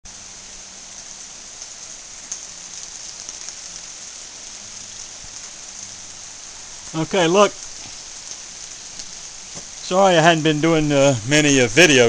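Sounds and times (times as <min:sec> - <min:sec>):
rain falling: 0:00.0 - 0:12.0
water dripping: 0:01.0 - 0:10.9.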